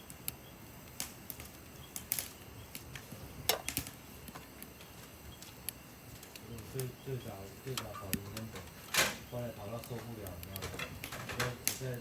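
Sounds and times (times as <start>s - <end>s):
faint fire hiss: 0.0s - 12.0s
firewood crackling: 0.0s - 12.0s.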